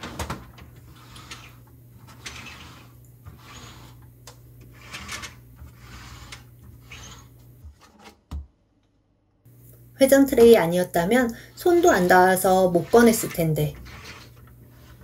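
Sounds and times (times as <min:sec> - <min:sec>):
plastic trays whirring: 0:00.0 - 0:08.3, 0:11.2 - 0:15.0.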